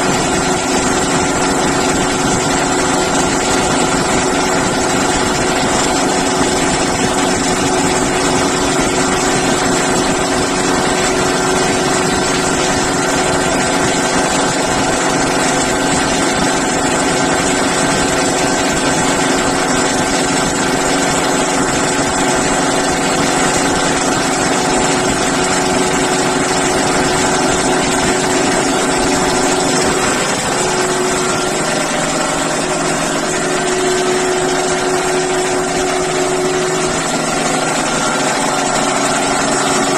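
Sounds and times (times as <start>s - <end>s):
air compressor droning: 0.0s - 39.9s.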